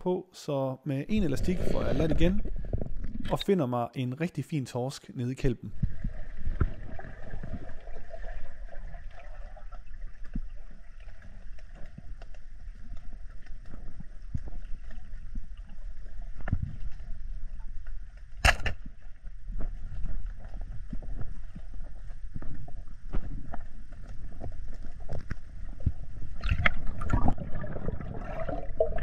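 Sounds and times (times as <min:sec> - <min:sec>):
low underwater rumble: 0:01.1 - 0:03.4, 0:05.7 - 0:29.0.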